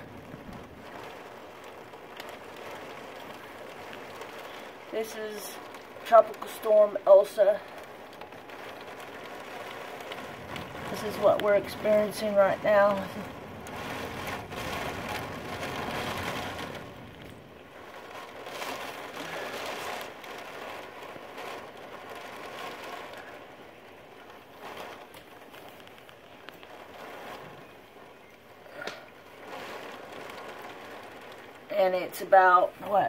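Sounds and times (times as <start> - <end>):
rain: 0.0 - 33.0
storm wind: 0.0 - 33.0.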